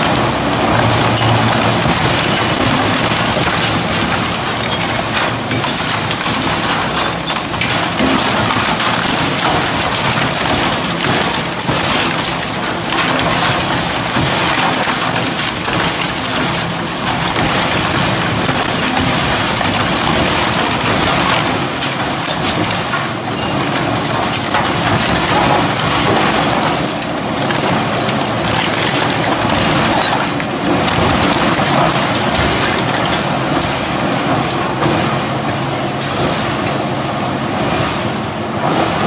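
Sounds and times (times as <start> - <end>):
sharp cracks and bangs: 0.0 - 35.2
shredder crushing metal and plastic: 0.0 - 36.9.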